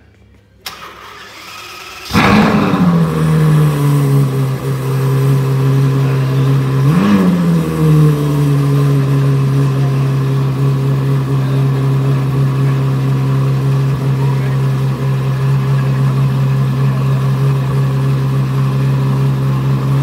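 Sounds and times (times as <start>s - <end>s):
car engine starting and idling: 0.6s - 20.0s
engine throttle blip: 0.6s - 20.0s.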